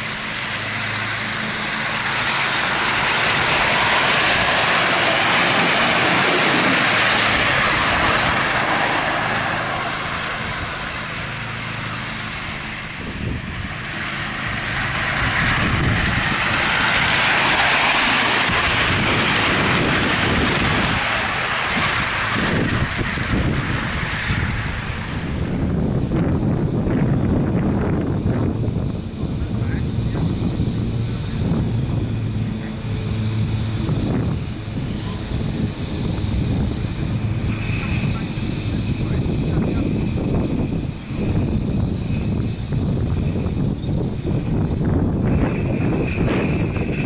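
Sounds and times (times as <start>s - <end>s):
steam locomotive exhaust rush: 0.0s - 47.0s.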